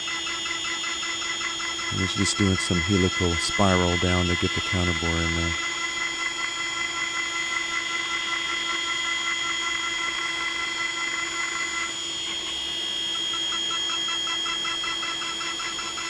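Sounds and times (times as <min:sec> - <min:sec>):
milling machine spindle whine: 0:00.0 - 0:16.0
pulsing tone: 0:00.0 - 0:16.0.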